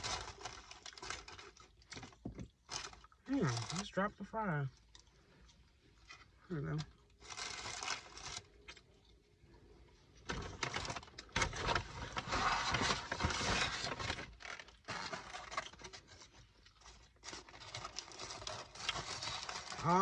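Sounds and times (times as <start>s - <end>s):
food packaging rustling: 0.0s - 20.0s.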